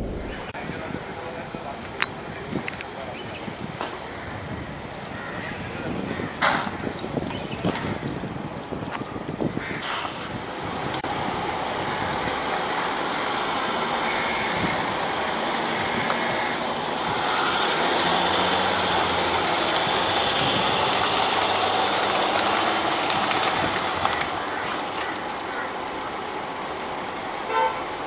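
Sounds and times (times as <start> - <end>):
suv engine running at low speed: 0.0 - 28.0.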